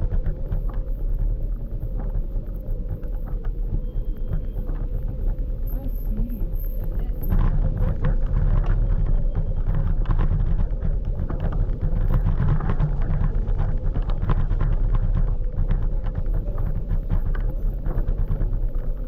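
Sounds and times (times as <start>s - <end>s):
scooter riding rumble: 0.0s - 19.0s
small knocks and rattles: 0.0s - 19.0s
wind on microphone: 0.0s - 19.0s.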